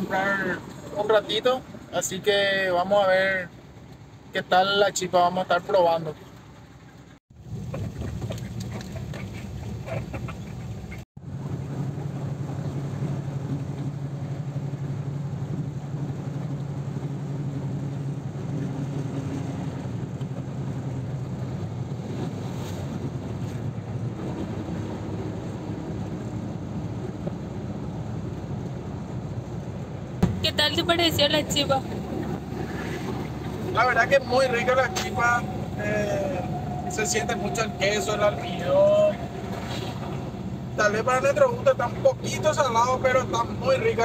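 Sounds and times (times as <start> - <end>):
road and wind noise: 0.0 - 44.0
van engine droning: 0.0 - 44.0
low hum: 6.4 - 42.2.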